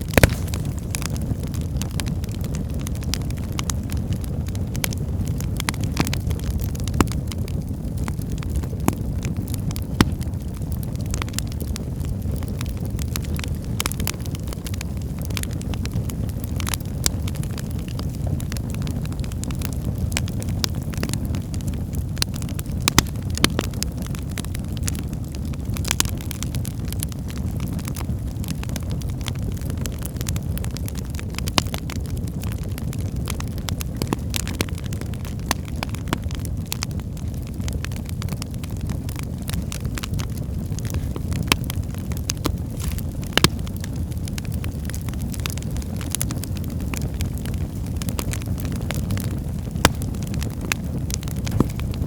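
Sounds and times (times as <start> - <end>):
burning logs crackling and popping: 0.0 - 52.0
fire flames rumbling: 0.0 - 52.0.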